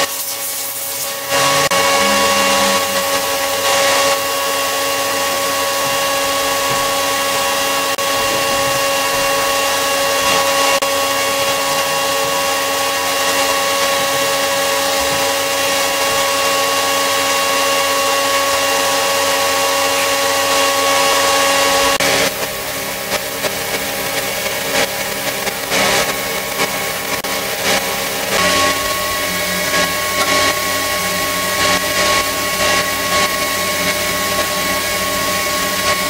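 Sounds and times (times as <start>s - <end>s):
power tool motor whining: 0.0s - 36.0s.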